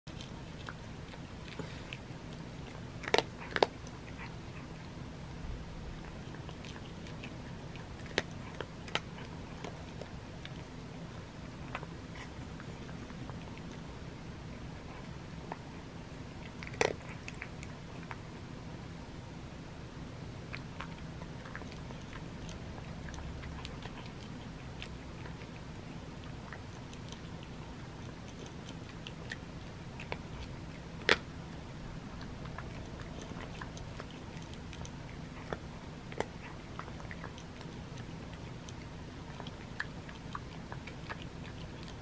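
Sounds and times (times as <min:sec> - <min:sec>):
cat crunching dry food: 0:00.1 - 0:05.0, 0:06.0 - 0:13.9, 0:14.6 - 0:18.3, 0:20.4 - 0:42.0.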